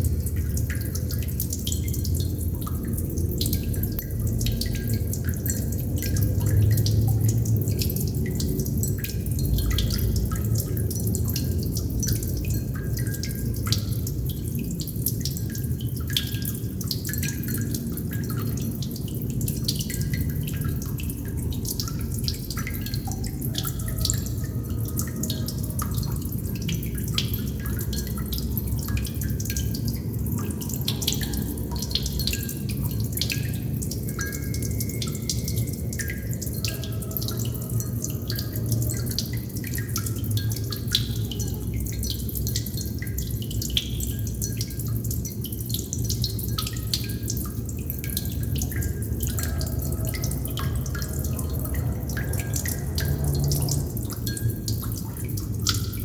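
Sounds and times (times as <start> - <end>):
water droplets dripping: 0.0 - 56.0.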